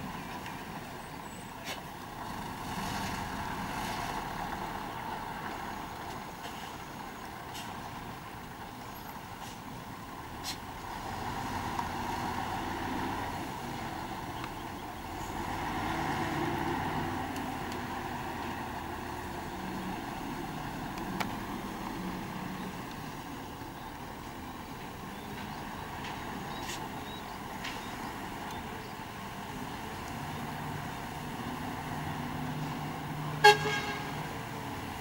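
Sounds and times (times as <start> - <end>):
mixer truck engine rumble: 0.0 - 35.0.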